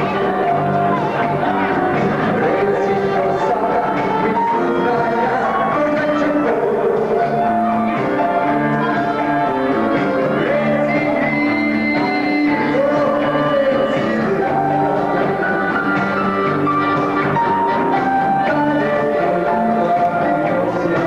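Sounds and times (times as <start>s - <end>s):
dance band with accordion: 0.0s - 21.0s.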